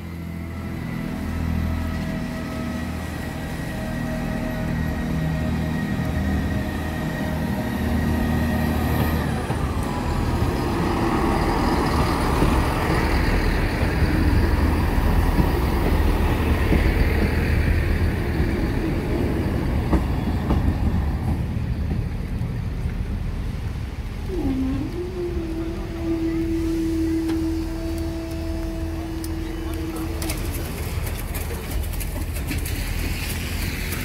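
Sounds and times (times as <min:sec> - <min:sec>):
train engine and wheels rumbling: 0:00.0 - 0:34.0.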